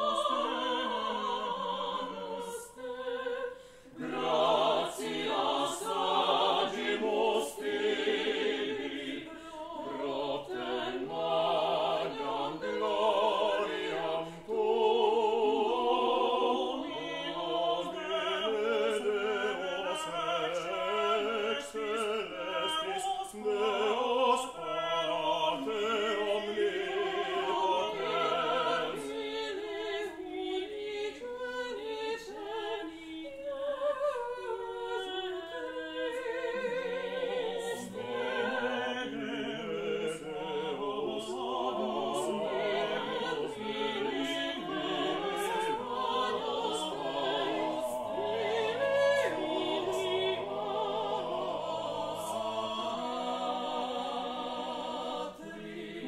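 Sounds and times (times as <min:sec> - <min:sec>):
vocal ensemble singing a cappella: 0:00.0 - 0:56.0.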